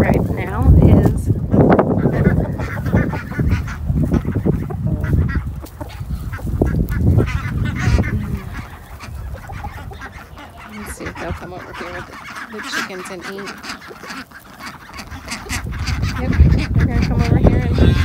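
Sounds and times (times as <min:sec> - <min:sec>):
chickens clucking: 0:00.0 - 0:18.0
ducks quacking: 0:00.0 - 0:18.0.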